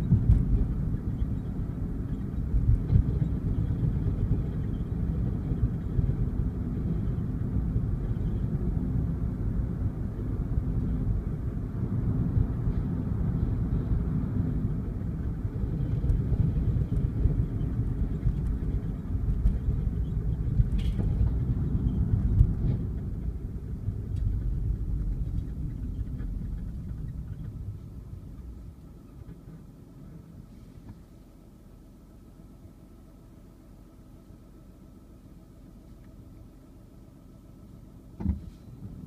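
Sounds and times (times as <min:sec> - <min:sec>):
road and engine rumble in car: 0:00.0 - 0:39.0.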